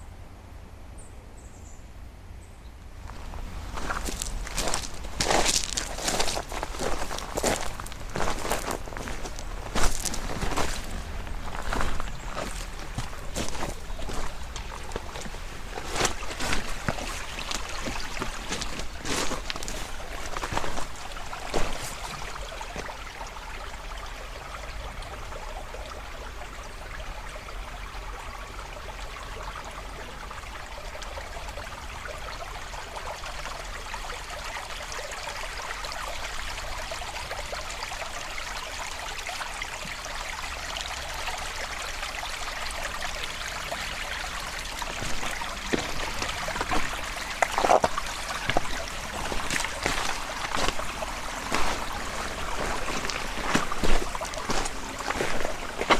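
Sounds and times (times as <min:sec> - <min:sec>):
creek water flowing: 0:02.8 - 0:55.9.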